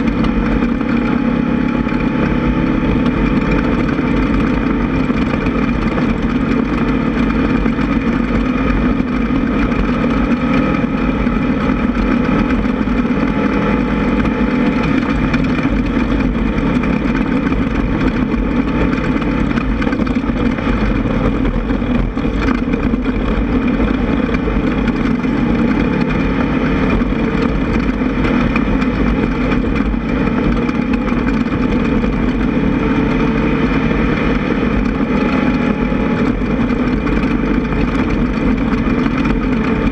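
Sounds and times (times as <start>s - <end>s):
off-road buggy engine running: 0.0s - 39.9s.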